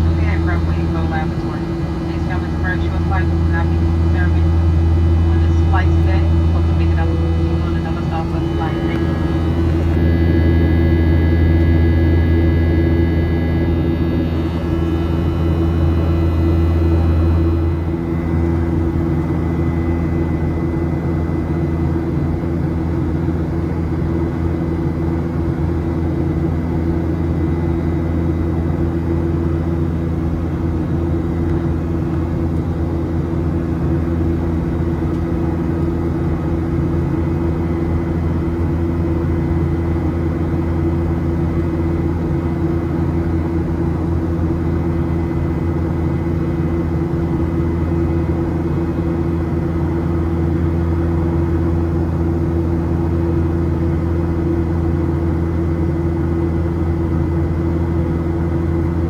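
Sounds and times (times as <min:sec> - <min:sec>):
jet engine hum: 0:00.0 - 0:59.0.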